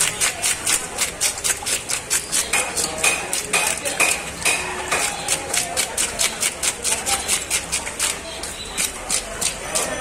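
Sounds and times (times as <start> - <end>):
knife scraping fish scales: 0.0 - 10.0.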